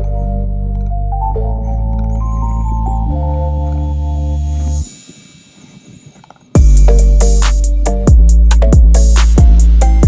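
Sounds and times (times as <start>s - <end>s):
synthesizer chords: 0.0s - 5.6s, 6.6s - 10.0s.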